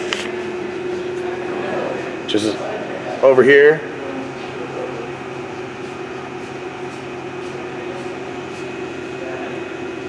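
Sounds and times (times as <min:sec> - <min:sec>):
lathe machine hum: 0:00.0 - 0:10.0.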